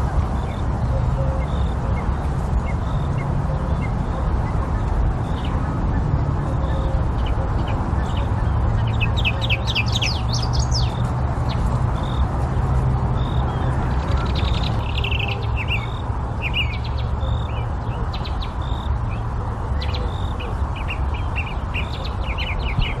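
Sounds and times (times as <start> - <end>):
small birds chirping: 0.4 - 23.0.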